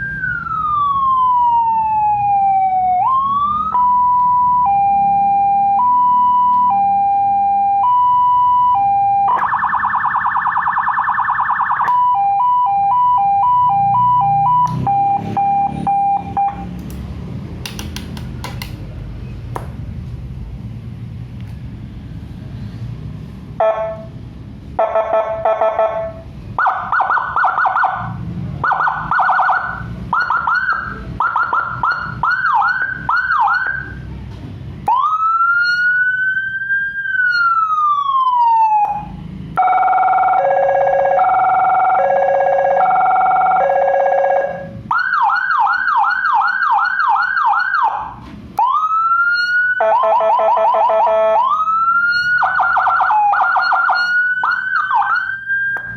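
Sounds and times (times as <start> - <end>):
electronic siren cycling tones: 0.0 - 16.8, 24.8 - 34.0, 34.9 - 55.9.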